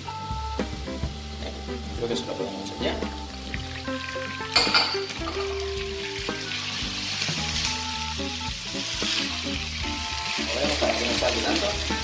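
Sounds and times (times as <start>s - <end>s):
fish frying in spattering oil: 0.0s - 12.0s
sharp burst of sizzling: 0.0s - 12.0s.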